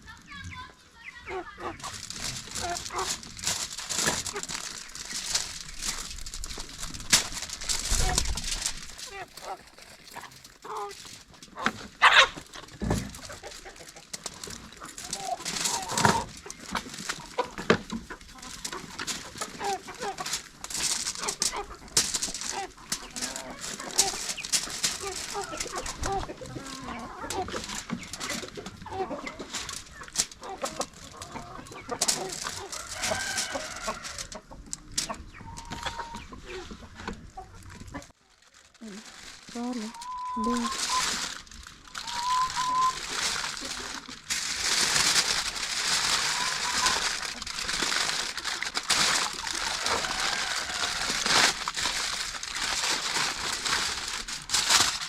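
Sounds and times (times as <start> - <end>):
chickens clucking: 0.0 - 38.2, 38.8 - 55.0
handling noises: 1.6 - 55.0.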